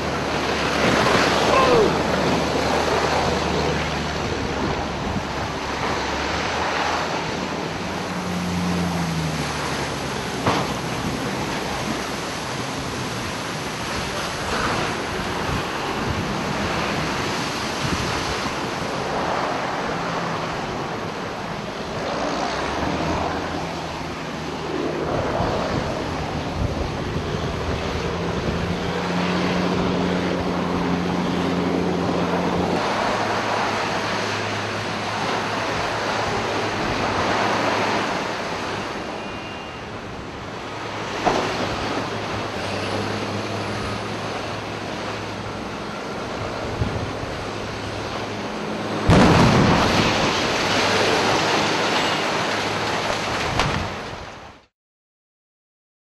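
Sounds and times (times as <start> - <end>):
wind buffeting microphone: 0.0 - 23.8, 24.4 - 38.9, 41.3 - 54.5.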